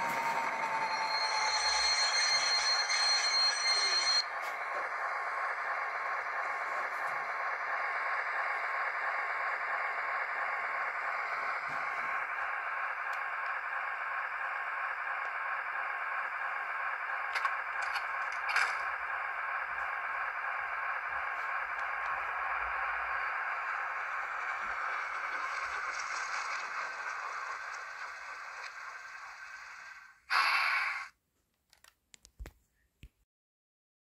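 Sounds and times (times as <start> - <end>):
diesel engine sound from small speaker: 0.0 - 31.1.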